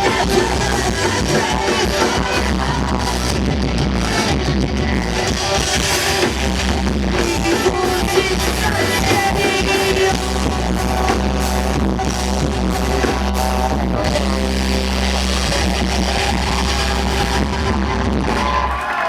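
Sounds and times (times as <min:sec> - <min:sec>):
live rock band playing: 0:00.0 - 0:18.8.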